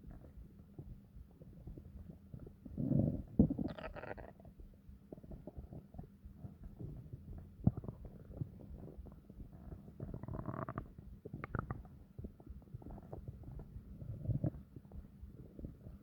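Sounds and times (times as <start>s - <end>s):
stomach growling and gurgling: 0.0s - 16.0s.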